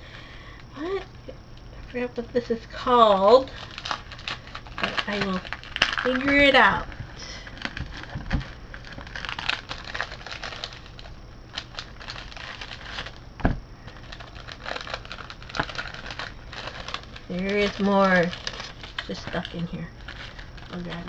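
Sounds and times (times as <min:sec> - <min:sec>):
plastic sleeve crinkling: 0:03.1 - 0:21.0.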